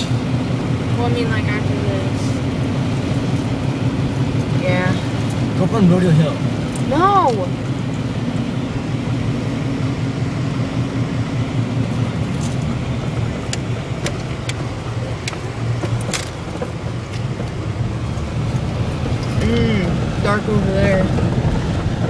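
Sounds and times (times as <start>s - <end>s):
car driving interior rumble: 0.0s - 22.0s.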